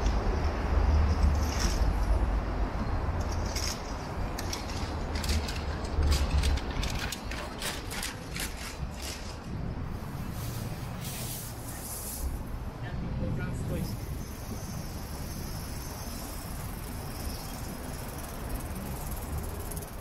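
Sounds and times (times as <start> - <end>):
low rumble of traffic: 0.0 - 20.0.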